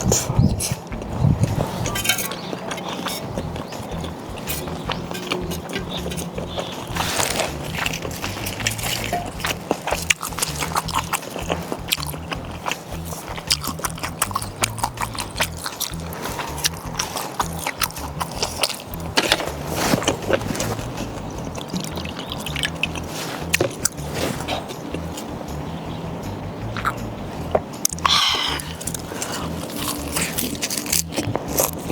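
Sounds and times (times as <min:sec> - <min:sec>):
chewing and crunching: 0:00.0 - 0:25.6, 0:26.7 - 0:31.9
background music with bass: 0:00.0 - 0:31.9.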